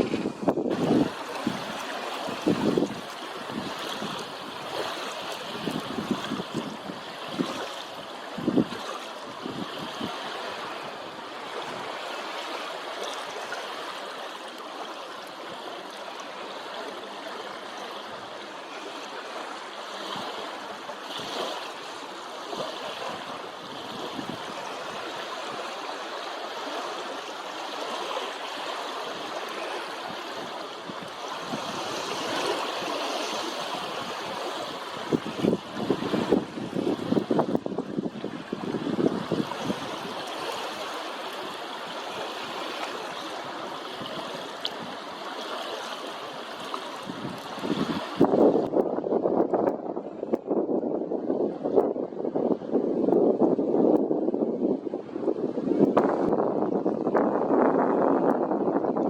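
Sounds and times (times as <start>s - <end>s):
wind buffeting microphone: 0.0s - 13.7s, 17.6s - 59.0s
waves lapping: 0.0s - 48.9s.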